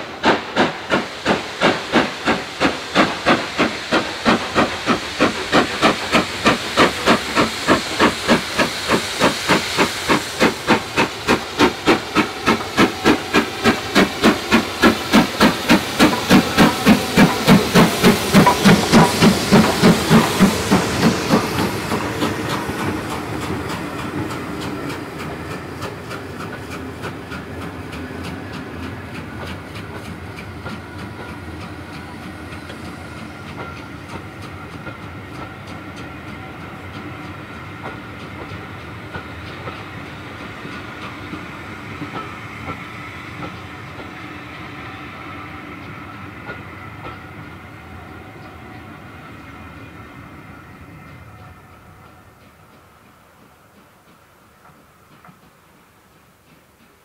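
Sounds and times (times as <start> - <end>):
steam hissing: 0.0 - 57.0
steam locomotive exhaust beats: 0.0 - 57.0
train coaches rolling on rails: 0.0 - 57.0.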